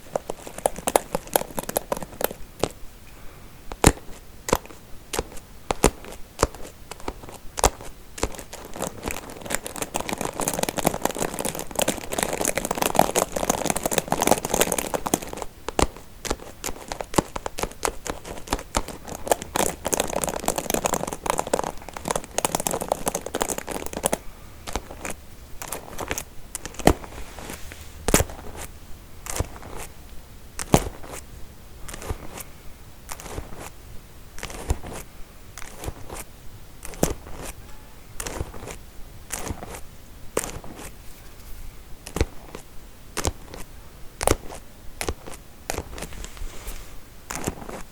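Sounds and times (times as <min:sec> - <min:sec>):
scratching over comb teeth: 0:00.0 - 0:02.8, 0:03.8 - 0:33.8, 0:34.4 - 0:47.9.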